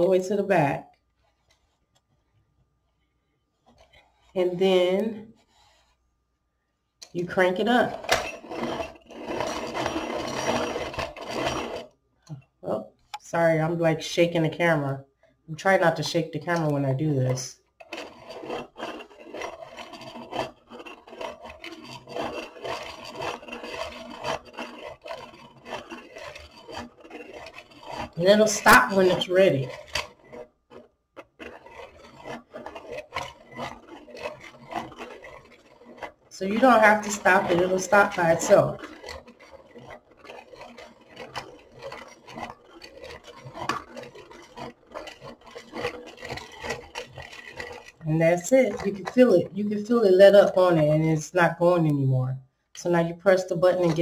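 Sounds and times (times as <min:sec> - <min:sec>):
pencil sharpener grinding: 0:03.6 - 0:06.0, 0:07.0 - 0:12.5, 0:15.6 - 0:52.0, 0:52.8 - 0:54.0.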